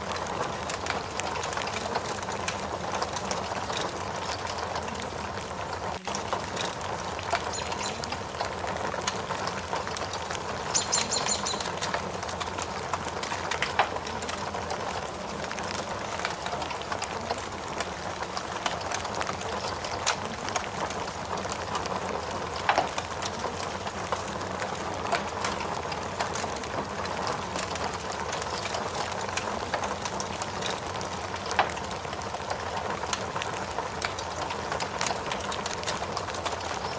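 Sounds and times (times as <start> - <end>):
steady hiss of rain: 0.0 - 36.9
wood fire crackling: 0.0 - 36.9.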